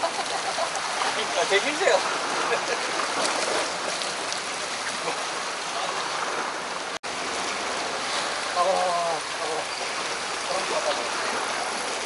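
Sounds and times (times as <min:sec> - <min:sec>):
seawater splashing against rocks: 0:00.0 - 0:12.0.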